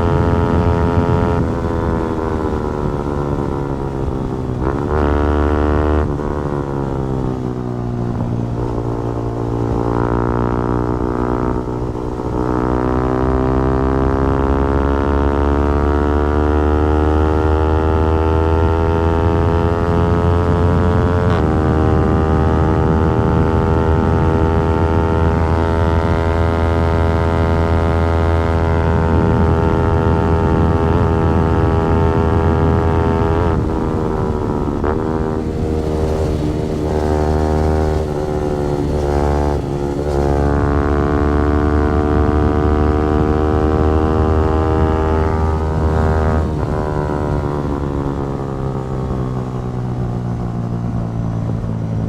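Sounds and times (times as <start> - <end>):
motorcycle engine at high revs: 0.0 - 52.0.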